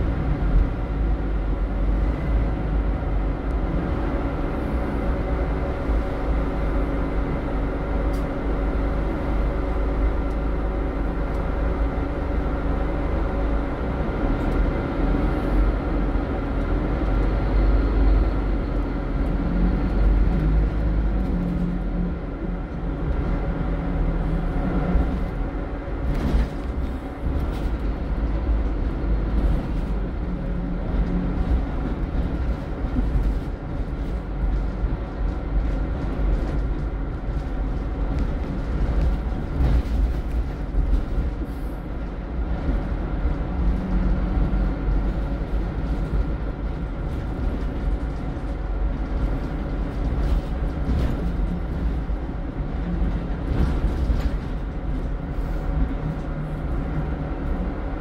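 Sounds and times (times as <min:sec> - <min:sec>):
bus diesel engine rumble: 0:00.0 - 0:58.0
road noise: 0:00.0 - 0:58.0.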